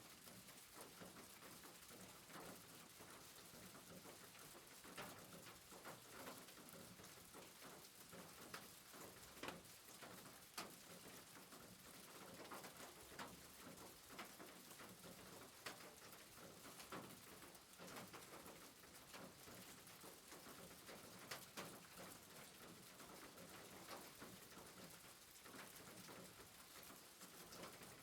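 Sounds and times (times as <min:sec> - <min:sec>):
soft rain hiss: 0:00.0 - 0:28.0.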